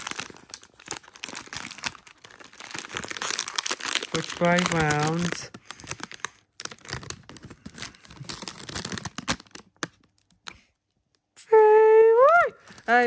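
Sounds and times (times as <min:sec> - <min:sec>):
plastic pouch crinkling: 0:00.0 - 0:10.5.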